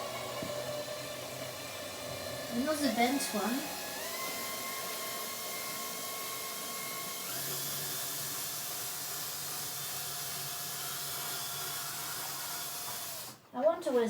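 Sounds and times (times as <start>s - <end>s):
small electric motor whining: 0.0s - 13.4s.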